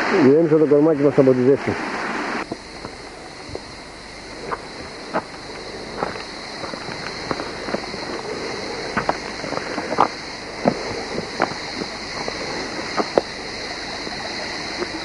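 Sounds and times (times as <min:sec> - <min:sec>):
small stream rushing: 0:00.0 - 0:15.0
footsteps crunching on dry leaves: 0:02.4 - 0:15.0.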